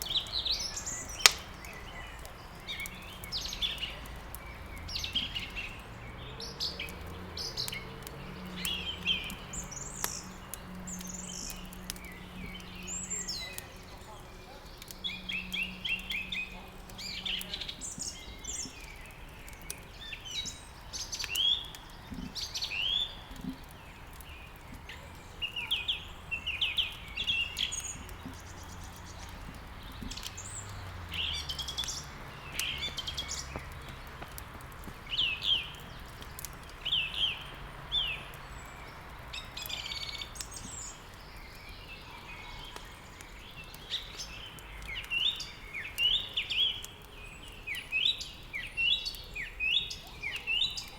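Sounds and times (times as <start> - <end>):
songbirds chirping and singing: 0.0 - 50.9
wood fire crackling: 0.0 - 50.9.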